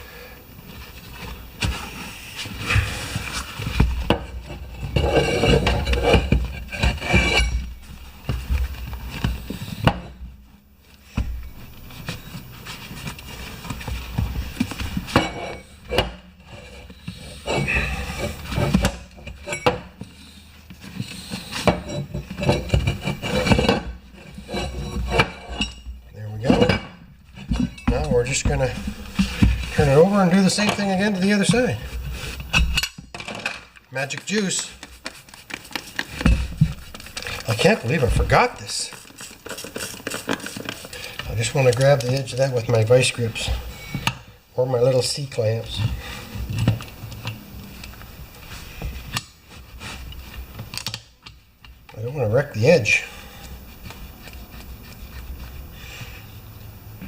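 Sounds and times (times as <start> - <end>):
rubbing and scraping of tire: 0.6 - 32.8, 33.9 - 57.0.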